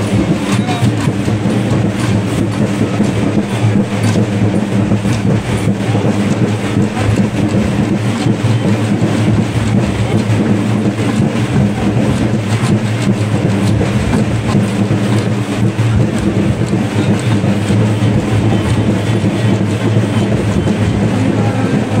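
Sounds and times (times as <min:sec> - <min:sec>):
festival crowd din: 0:00.0 - 0:22.0.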